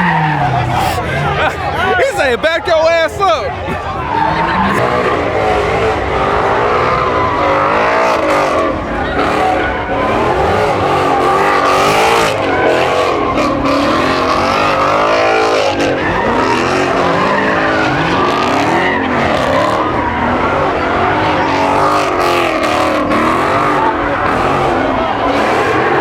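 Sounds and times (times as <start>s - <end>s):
car engines revving hard: 0.0s - 26.0s
tyre squeal and skidding: 0.0s - 26.0s.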